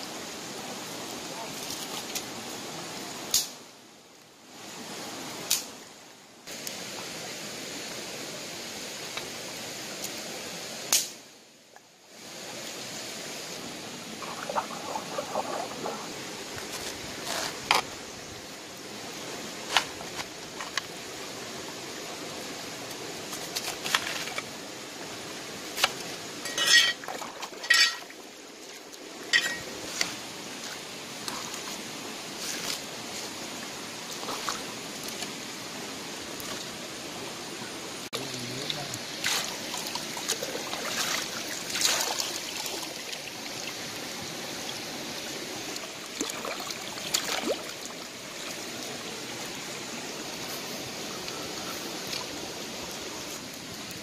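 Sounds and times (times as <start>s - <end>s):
stream rushing: 0.0s - 54.0s.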